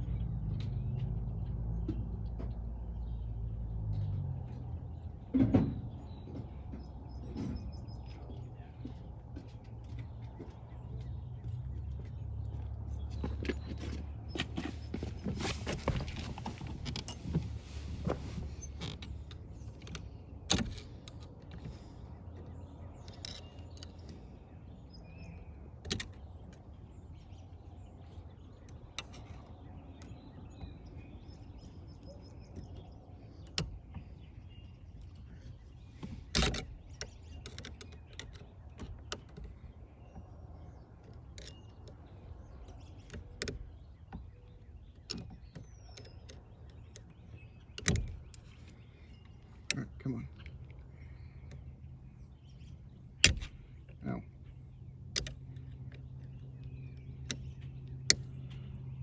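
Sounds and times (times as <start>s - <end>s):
handling clicks and knocks: 3.8s - 59.0s.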